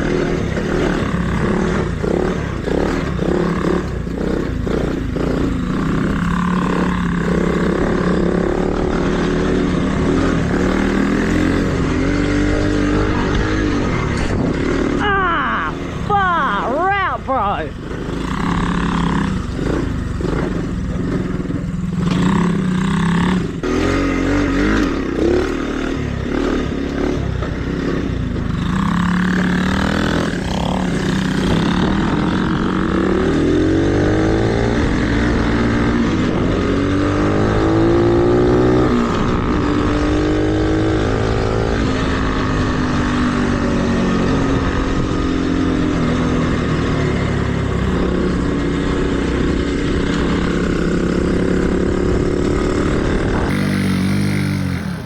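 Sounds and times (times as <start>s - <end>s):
mini bike engine revving: 0.0s - 55.0s.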